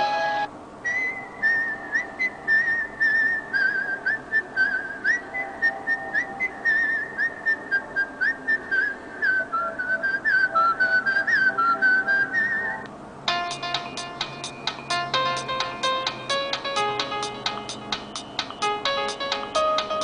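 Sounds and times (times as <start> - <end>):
whistled ringtone melody: 0.0 - 20.0.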